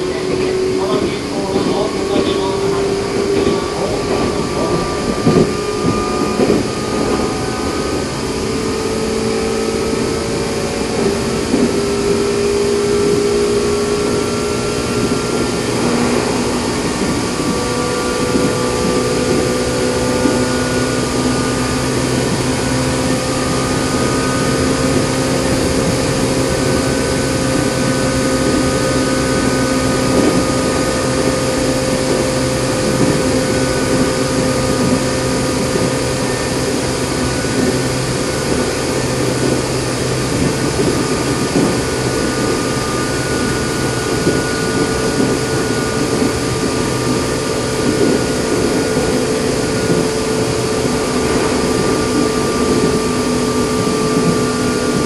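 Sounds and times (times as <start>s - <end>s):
train traction motor hum rising: 0.0s - 55.0s.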